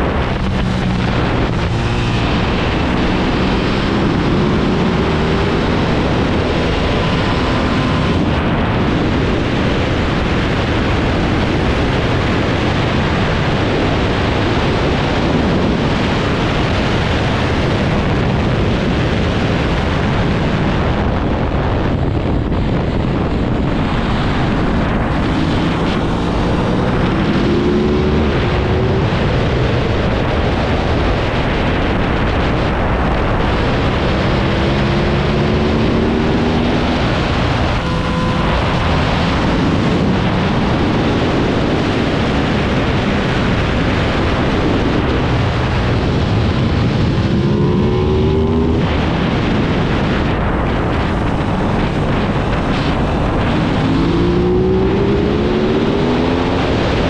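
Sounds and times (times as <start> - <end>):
motorcycle engine revving: 0.0 - 57.0
wind rushing on microphone: 0.0 - 57.0.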